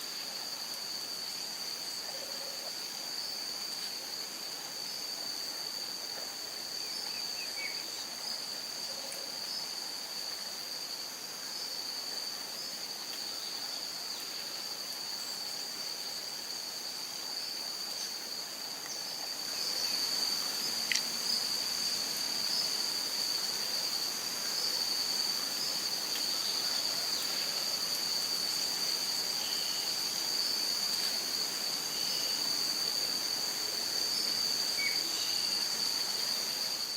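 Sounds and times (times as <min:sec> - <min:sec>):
insect chorus drone: 0:00.0 - 0:36.9.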